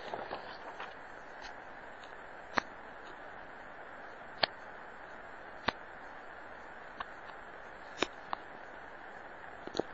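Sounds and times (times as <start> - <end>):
steady hiss: 0.0 - 9.9.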